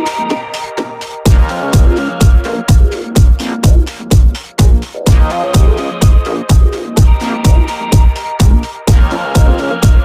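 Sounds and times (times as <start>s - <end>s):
sustained synth chords: 0.0s - 10.0s
heavy kick drum: 1.0s - 10.0s.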